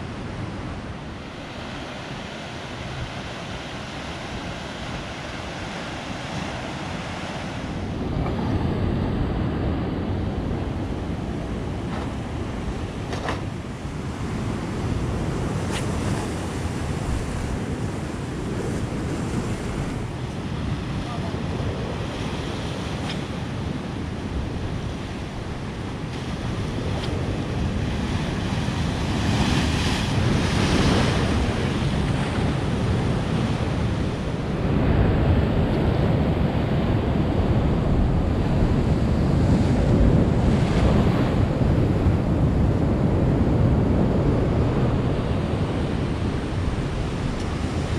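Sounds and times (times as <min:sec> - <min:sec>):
ocean waves breaking: 0:00.0 - 0:47.9
wind buffeting microphone: 0:00.0 - 0:47.9.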